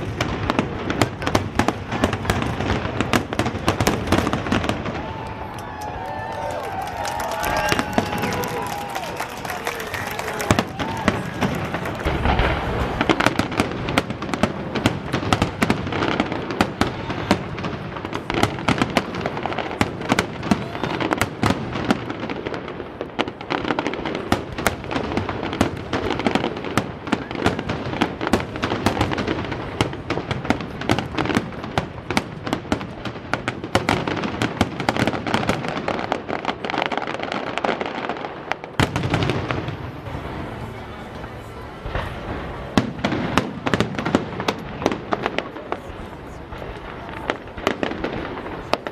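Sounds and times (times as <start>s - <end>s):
fireworks crackling: 0.0s - 48.9s.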